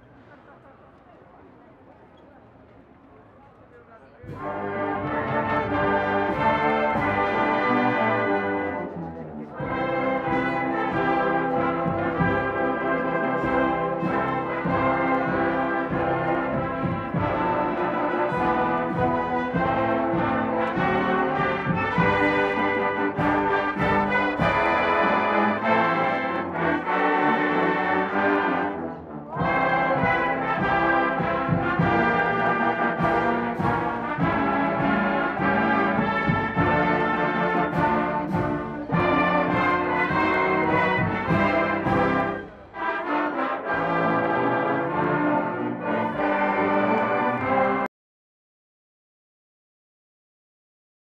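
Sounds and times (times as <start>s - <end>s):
marching band playing: 4.2s - 47.9s.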